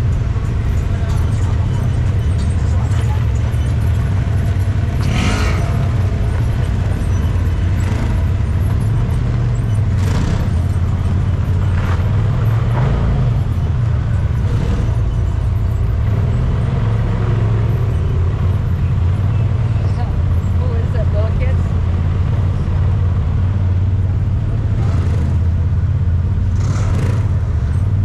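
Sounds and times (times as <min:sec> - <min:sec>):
engine revving: 0:00.0 - 0:28.0
utility vehicle engines droning: 0:00.0 - 0:28.0.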